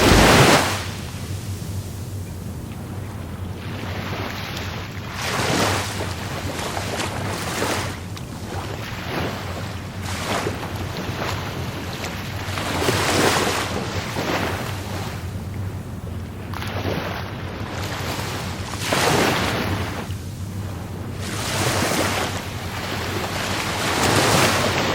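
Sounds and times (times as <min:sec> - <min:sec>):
low surf rumble: 0:00.0 - 0:24.9
waves breaking: 0:00.0 - 0:24.9.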